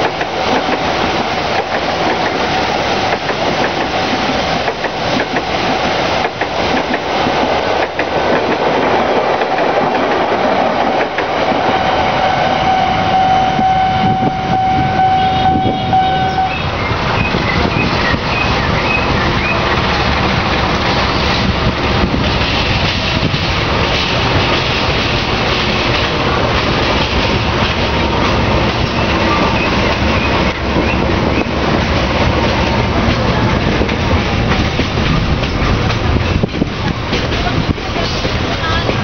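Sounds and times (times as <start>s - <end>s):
train wheels clattering on rails: 0.0s - 12.4s, 16.4s - 39.0s.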